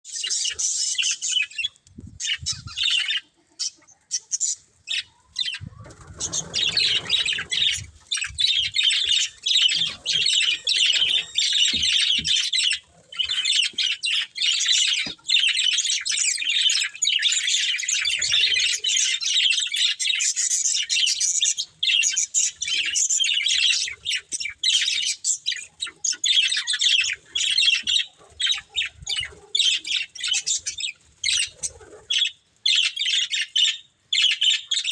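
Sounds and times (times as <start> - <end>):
budgerigars chirping: 0.1 - 34.9.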